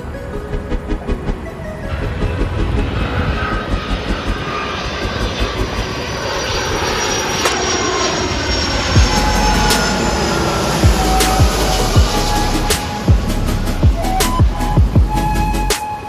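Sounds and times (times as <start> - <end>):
jet engines roaring and whining: 0.0 - 16.0.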